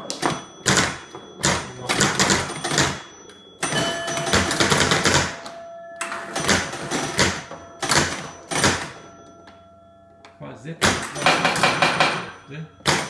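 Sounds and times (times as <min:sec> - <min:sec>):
pinball relays clattering: 0:00.0 - 0:09.6, 0:10.8 - 0:13.0
pinball bell ringing: 0:00.0 - 0:13.0.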